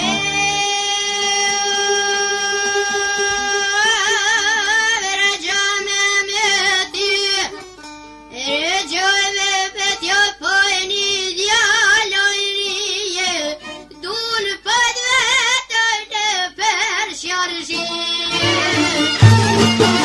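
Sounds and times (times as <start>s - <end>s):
person singing folk song with vibrato: 0.0s - 20.0s.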